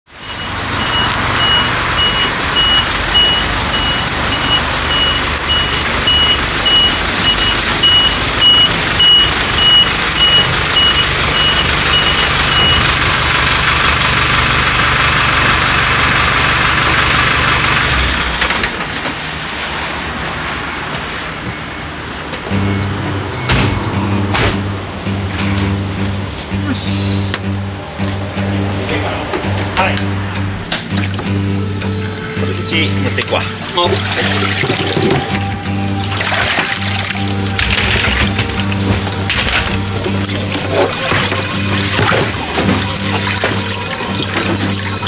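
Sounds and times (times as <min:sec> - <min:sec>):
truck reversing alarm beeping: 0:00.1 - 0:18.5, 0:20.6 - 0:45.0
truck engine running: 0:00.1 - 0:19.5, 0:20.1 - 0:45.0.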